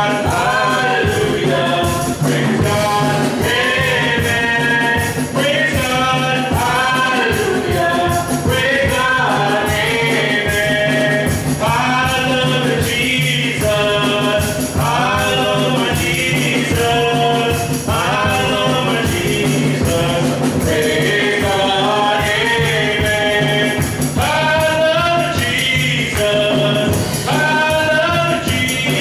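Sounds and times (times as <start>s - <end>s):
conga drums: 0.0s - 29.0s
drum kit: 0.0s - 29.0s
voices singing together: 0.0s - 29.0s.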